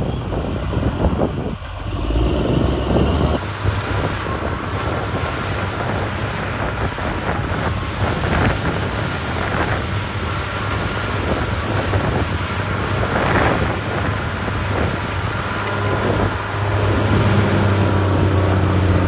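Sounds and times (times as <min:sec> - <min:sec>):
bulldozer diesel engine humming: 0:00.0 - 0:19.0
steel tracks squealing and clattering: 0:00.0 - 0:19.0.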